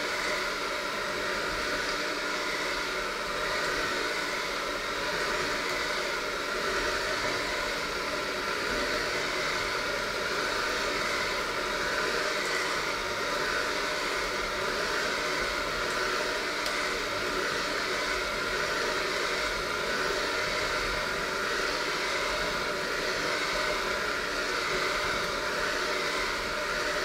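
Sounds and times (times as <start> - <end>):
electric hand mixer running: 0.0 - 27.0.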